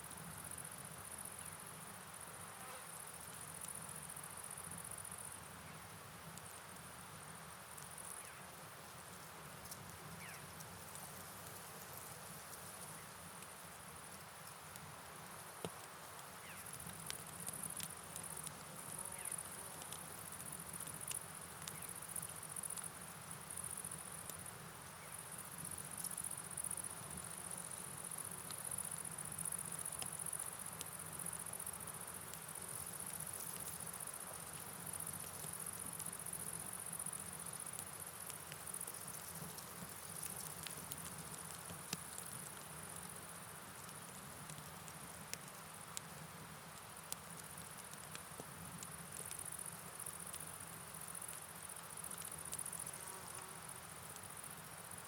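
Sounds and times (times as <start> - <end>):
rainfall hiss: 0.0 - 55.0
faint ticks: 2.6 - 6.9, 7.7 - 8.4, 9.1 - 55.0.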